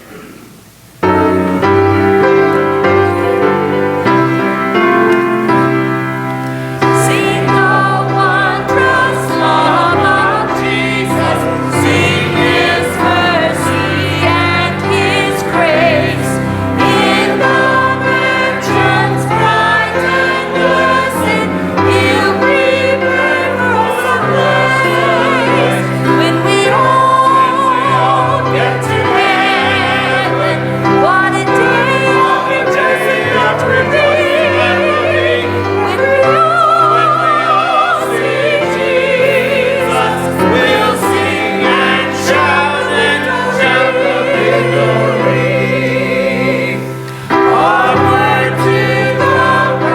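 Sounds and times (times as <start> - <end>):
voices singing a hymn: 0.0 - 49.9
instrumental accompaniment: 1.0 - 49.9.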